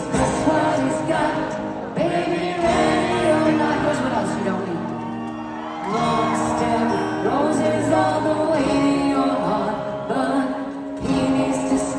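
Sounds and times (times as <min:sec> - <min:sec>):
woman singing: 0:00.0 - 0:05.0, 0:05.8 - 0:11.9.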